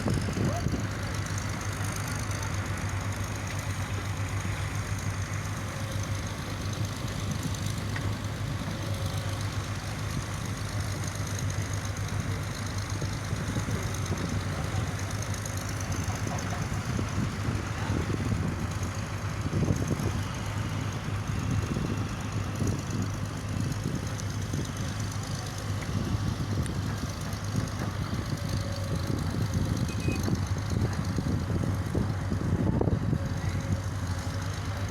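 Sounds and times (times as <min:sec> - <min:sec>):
excavator diesel engine droning: 0:00.0 - 0:34.9.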